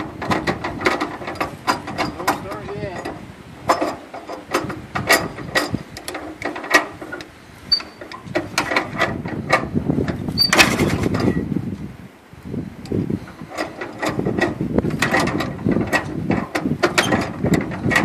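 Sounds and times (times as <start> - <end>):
engine hand crank clanking: 0.0 - 11.4, 13.3 - 18.0.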